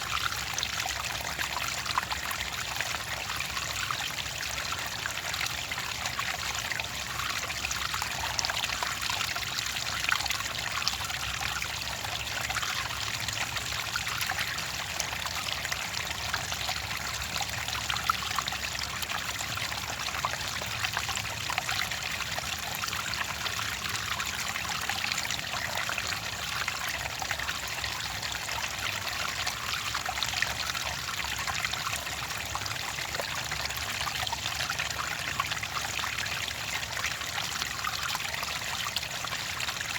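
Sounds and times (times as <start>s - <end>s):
water trickling over stones: 0.0s - 39.9s.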